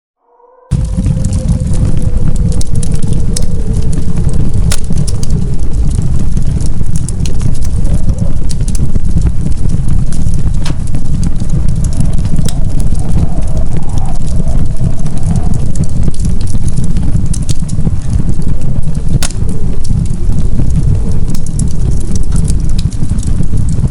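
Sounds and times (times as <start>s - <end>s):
rumble of flames: 0.7s - 23.9s
wood fire crackling: 0.7s - 23.9s.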